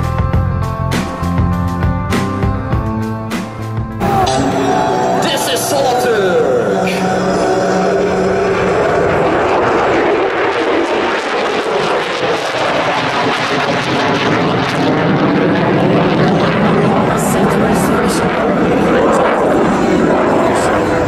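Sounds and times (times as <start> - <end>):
jet engine rumble: 0.8 - 21.0.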